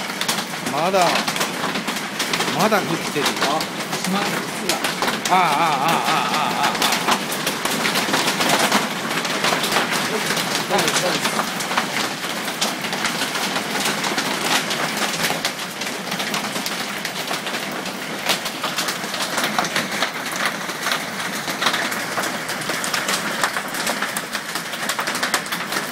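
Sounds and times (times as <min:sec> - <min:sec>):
hailstones clattering on roof: 0:00.0 - 0:25.9.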